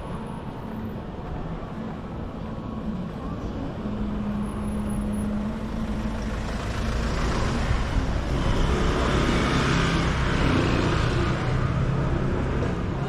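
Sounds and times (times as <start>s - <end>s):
engine rumble with tyre noise: 0.0s - 13.0s.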